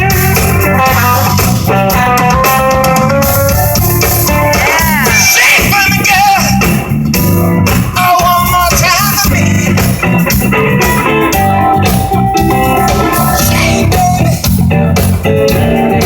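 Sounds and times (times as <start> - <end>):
electric guitar sliding notes: 0.0 - 5.4, 6.4 - 16.0
blues-rock band music: 0.0 - 16.0.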